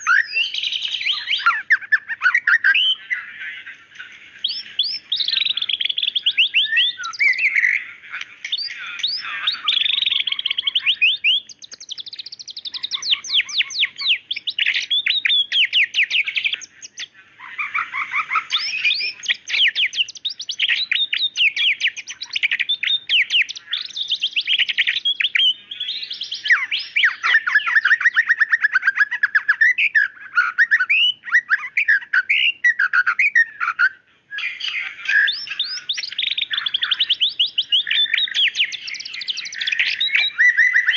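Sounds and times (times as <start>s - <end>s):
bird singing whistled trills: 0.0s - 40.9s.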